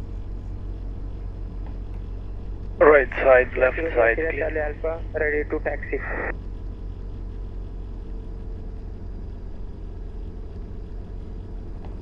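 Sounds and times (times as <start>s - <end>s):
aircraft engine idling: 0.0s - 12.0s.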